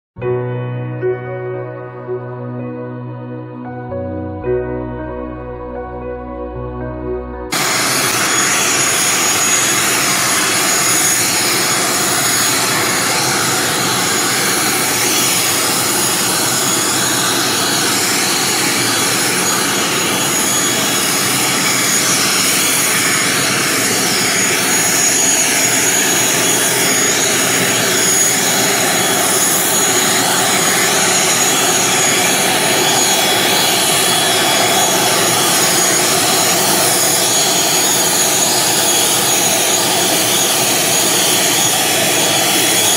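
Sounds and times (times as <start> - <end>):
high engine whine: 7.5 - 42.9
turboprop engine running: 7.5 - 42.9.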